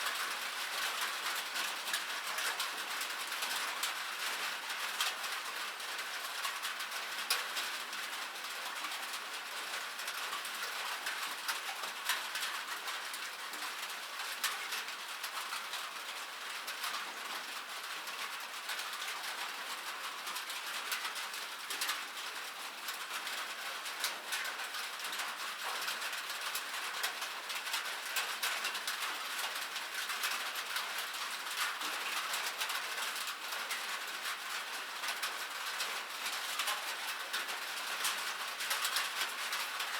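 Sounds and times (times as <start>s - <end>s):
rain on metal: 0.0s - 39.9s.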